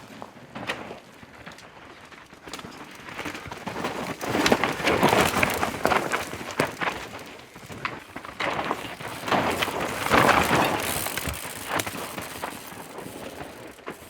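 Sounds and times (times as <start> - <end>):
bike clicks and rattles: 0.0 - 14.0
bike tyres crunching on dirt: 0.0 - 14.0.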